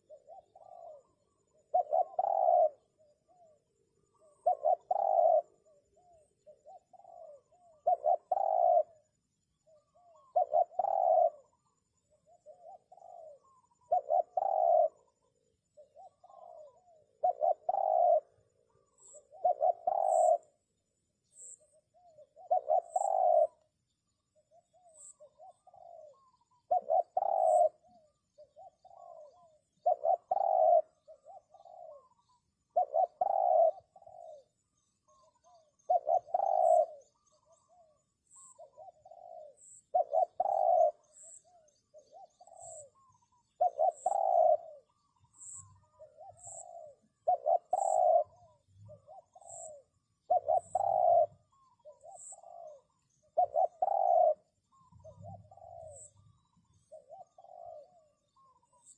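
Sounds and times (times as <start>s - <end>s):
dove cooing: 0.0s - 20.6s, 21.2s - 58.9s
small bird chirping: 0.0s - 58.9s.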